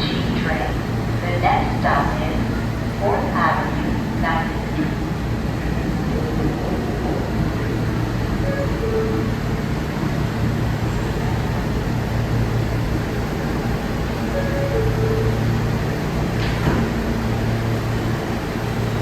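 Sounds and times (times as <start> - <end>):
subway station hum: 0.0 - 19.0.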